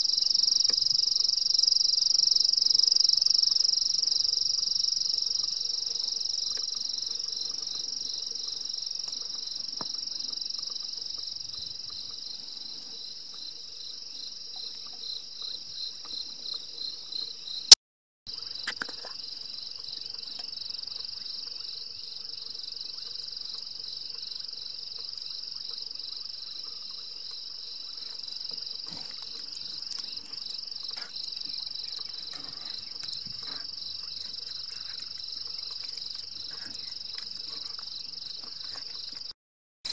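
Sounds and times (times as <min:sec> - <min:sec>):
night insects chorus: 0:00.0 - 0:17.7, 0:18.3 - 0:39.3.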